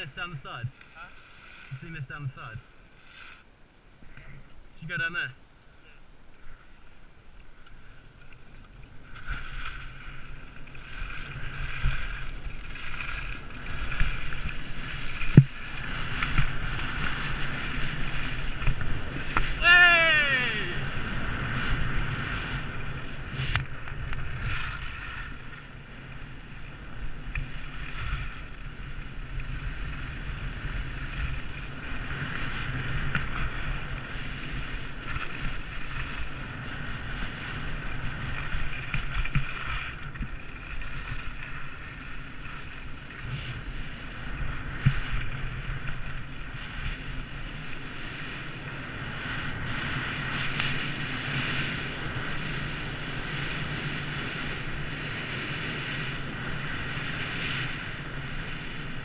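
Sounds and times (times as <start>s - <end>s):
skis scraping over snow: 0.0s - 3.5s, 6.3s - 59.0s.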